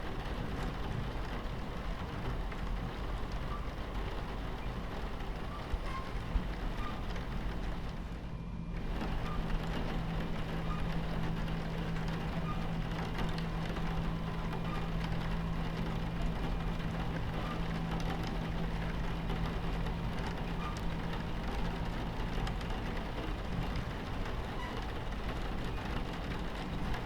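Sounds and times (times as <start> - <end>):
rain pattering on window: 0.0 - 27.0
train rumbling: 0.0 - 27.0.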